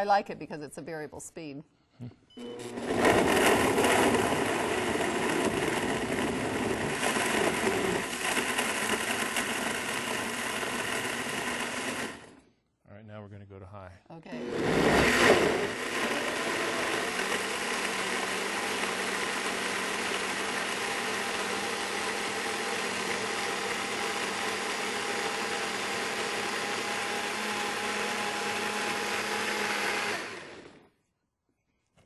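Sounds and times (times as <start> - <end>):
blender running on high: 2.4 - 12.3, 14.3 - 30.9.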